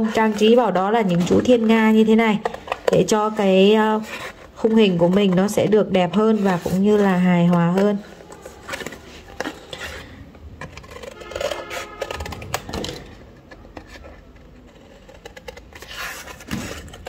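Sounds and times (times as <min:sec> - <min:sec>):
scissors cutting cardboard: 0:00.0 - 0:17.0.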